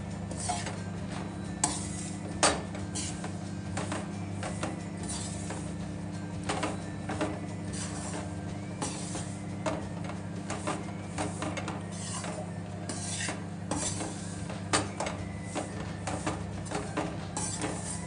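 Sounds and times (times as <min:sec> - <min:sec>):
metal spoon scraping a pan: 0:00.0 - 0:05.8, 0:06.4 - 0:18.0
steady low hum: 0:00.0 - 0:18.0.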